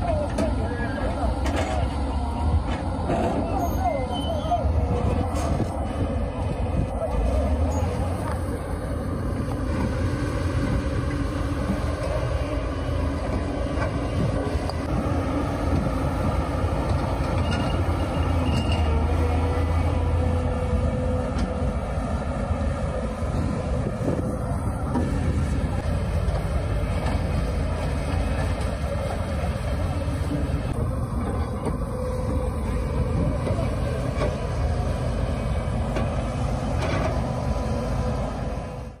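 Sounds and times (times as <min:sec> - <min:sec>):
diesel engine rumbling: 0:00.0 - 0:39.0.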